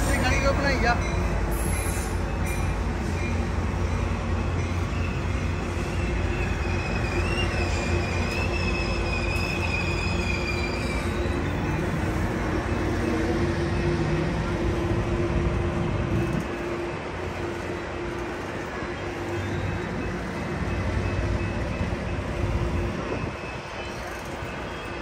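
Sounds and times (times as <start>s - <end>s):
high wavering wheel squeal: 0.0s - 14.9s, 16.1s - 25.0s
train wheels rumbling on rail: 0.0s - 25.0s.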